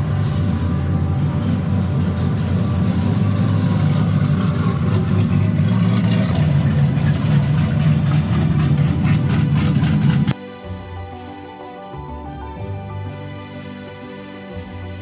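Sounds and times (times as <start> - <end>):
car engine running: 0.0 - 15.0
loud music: 0.0 - 15.0.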